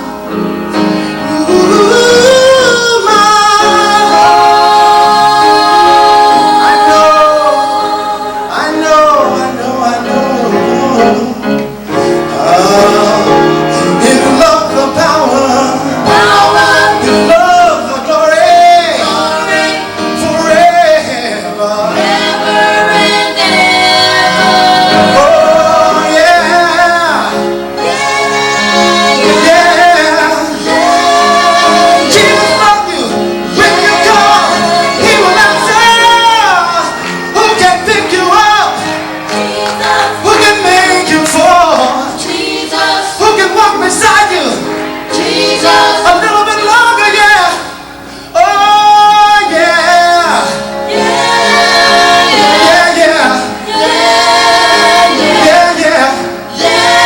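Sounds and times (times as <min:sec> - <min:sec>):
gospel voices singing: 0:00.0 - 0:57.0
steady musical accompaniment: 0:00.0 - 0:57.0.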